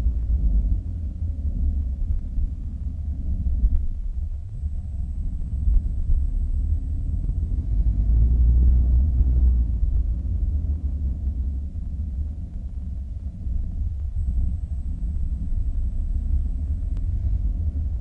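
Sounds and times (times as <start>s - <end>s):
faint high whine: 0.0s - 18.0s
wind and road rumble: 0.0s - 18.0s.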